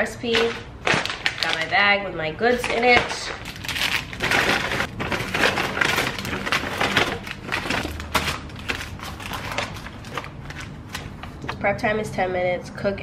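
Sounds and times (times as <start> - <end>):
plastic packaging crinkling: 0.2 - 11.6.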